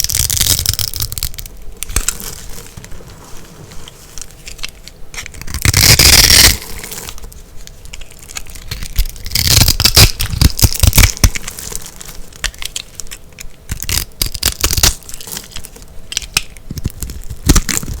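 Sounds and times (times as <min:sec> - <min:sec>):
crunchy soap being crushed: 0:00.0 - 0:18.0.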